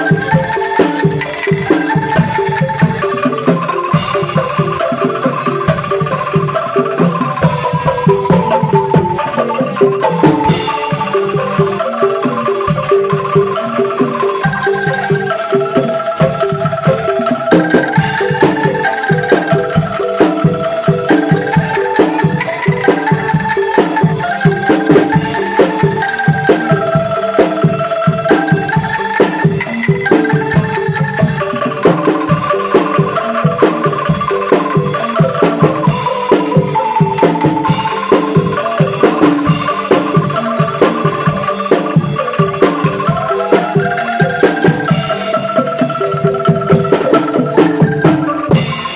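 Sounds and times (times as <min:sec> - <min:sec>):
angklung ensemble melody: 0:00.0 - 0:48.9
steady drum beat: 0:00.0 - 0:48.9.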